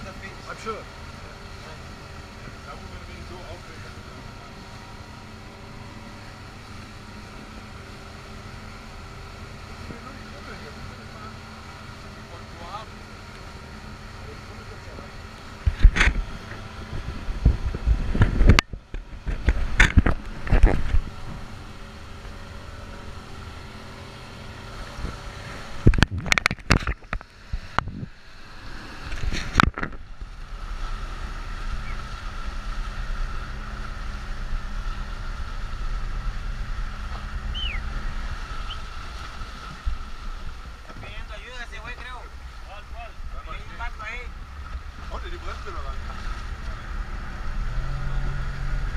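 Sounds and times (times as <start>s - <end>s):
boat motor running: 0.0s - 48.9s
rushing water: 0.0s - 48.9s
wind: 0.0s - 48.9s.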